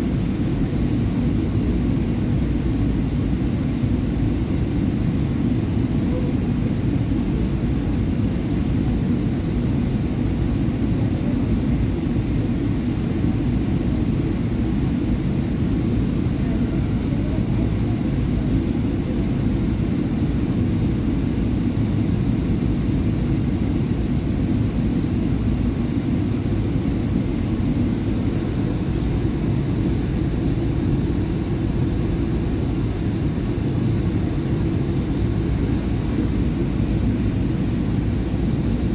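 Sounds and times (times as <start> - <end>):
subway train rumble: 0.0 - 38.9.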